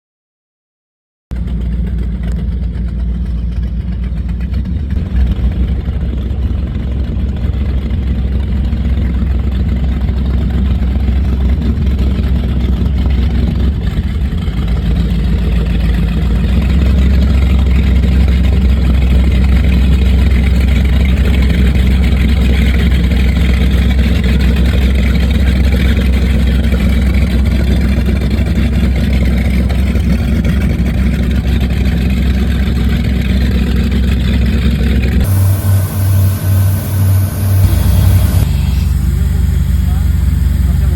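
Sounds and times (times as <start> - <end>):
powerboat engines running hard: 1.4 - 40.9.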